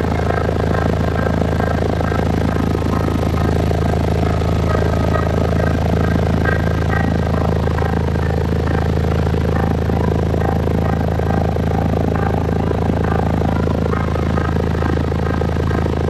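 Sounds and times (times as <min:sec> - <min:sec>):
deep bass from subwoofers: 0:00.0 - 0:16.0.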